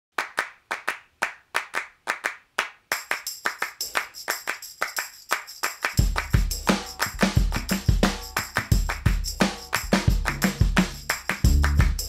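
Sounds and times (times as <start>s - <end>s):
rhythmic handclaps: 0.2s - 12.0s.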